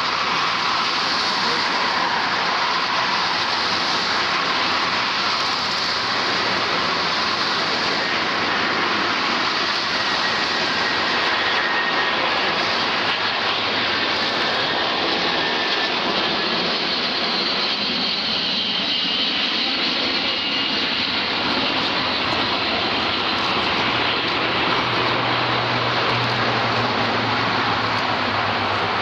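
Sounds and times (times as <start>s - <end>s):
jet engine noise: 0.0s - 29.0s.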